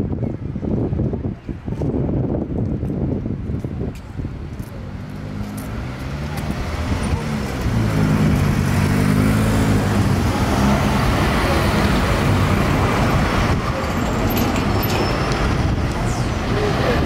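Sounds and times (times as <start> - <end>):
vehicles passing on asphalt: 0.0 - 17.0.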